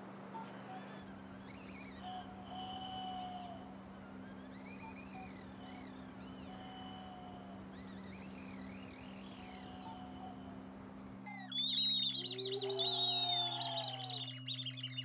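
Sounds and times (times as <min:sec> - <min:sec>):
steady low hum: 0:00.0 - 0:15.0
whistled chirps and trills: 0:00.4 - 0:10.6, 0:11.2 - 0:15.0
wooden bird whistles: 0:00.8 - 0:10.4, 0:11.3 - 0:15.0.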